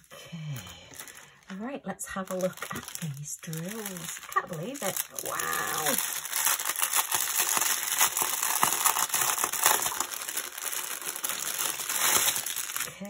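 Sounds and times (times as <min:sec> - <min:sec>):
plastic packaging crinkling: 0:00.5 - 0:13.0.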